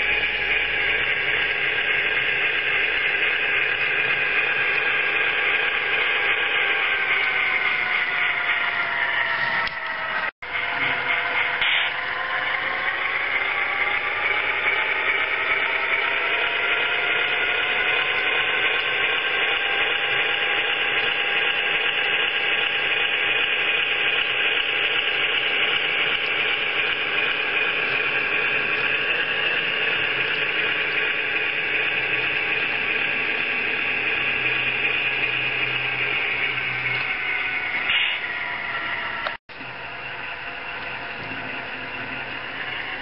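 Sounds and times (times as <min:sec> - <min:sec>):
model train motor and wheels whirring: 0:00.0 - 0:43.0
rising motor whine: 0:00.0 - 0:43.0.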